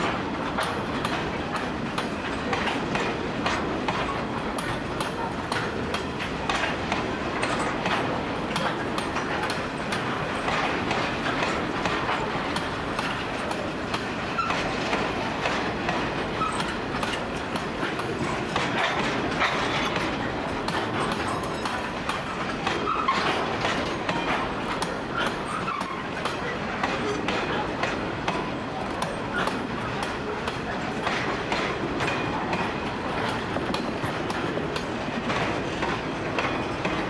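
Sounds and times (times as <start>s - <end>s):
train wagons rolling on rails: 0.0s - 37.0s.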